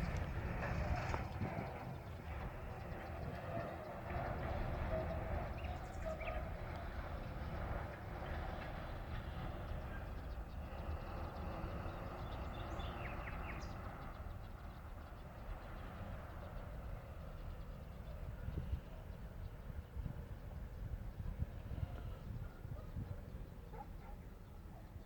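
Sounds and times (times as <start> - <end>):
low steady rumble: 0.0 - 24.1.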